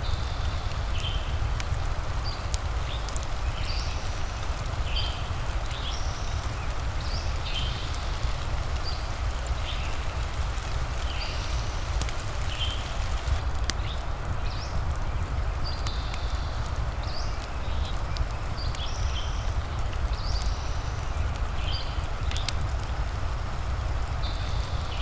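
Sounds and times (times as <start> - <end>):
fireplace crackling: 0.0 - 25.0
steady rain: 0.0 - 25.0.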